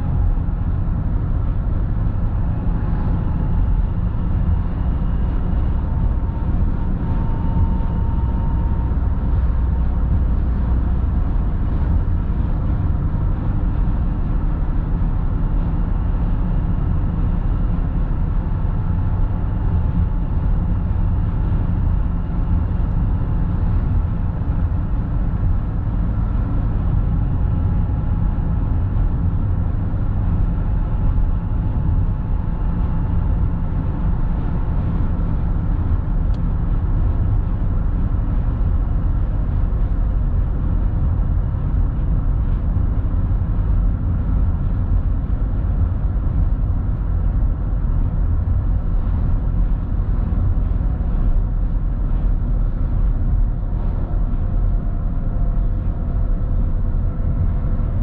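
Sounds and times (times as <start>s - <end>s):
road and engine rumble in car: 0.0s - 58.0s.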